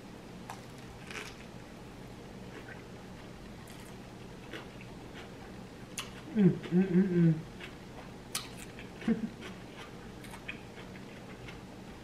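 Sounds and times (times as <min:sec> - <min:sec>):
faint low hum: 0:00.0 - 0:12.0
person chewing a burger: 0:00.5 - 0:01.5, 0:02.4 - 0:12.0.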